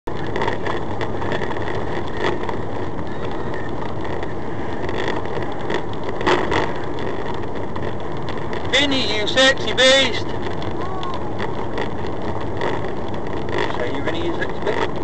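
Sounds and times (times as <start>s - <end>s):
knocks and rattles: 0.1s - 15.0s
road and engine noise in cabin: 0.1s - 15.0s.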